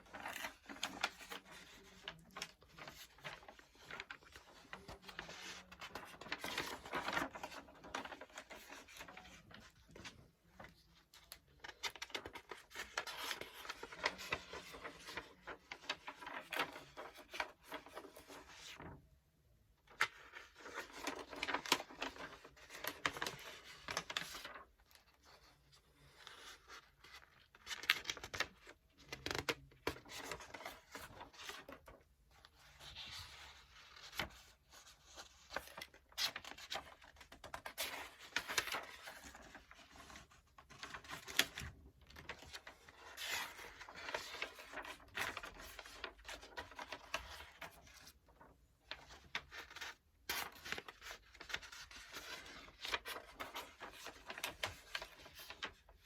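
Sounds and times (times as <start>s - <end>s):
book pages turning: 0.0s - 19.0s, 19.8s - 56.0s.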